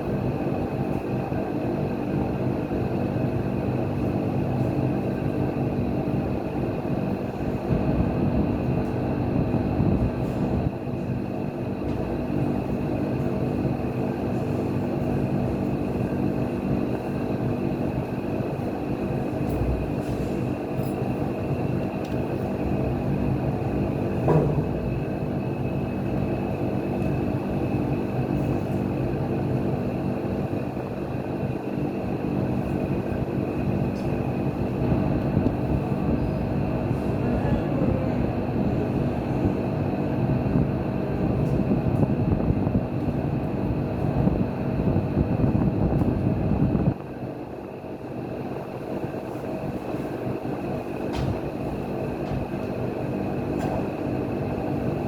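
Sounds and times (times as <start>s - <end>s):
machine running with low hum: 0.0s - 55.0s.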